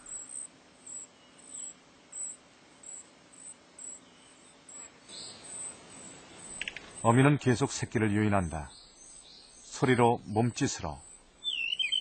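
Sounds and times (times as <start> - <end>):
quiet forest ambience: 0.0 - 12.0.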